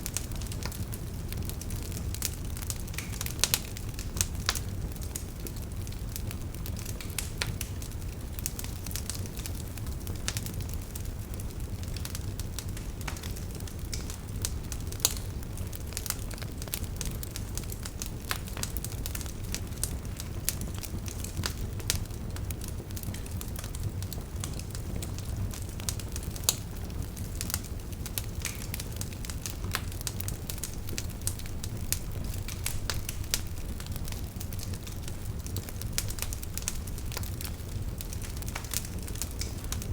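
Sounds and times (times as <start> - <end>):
fire popping and snapping: 0.0 - 39.9
low rumble of flames: 0.0 - 39.9
wood fire crackling: 0.0 - 39.9.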